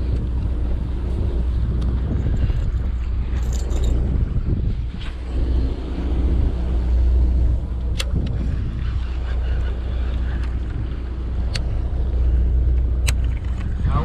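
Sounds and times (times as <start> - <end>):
boat engine droning: 0.0 - 14.0
wind on microphone: 0.0 - 14.0.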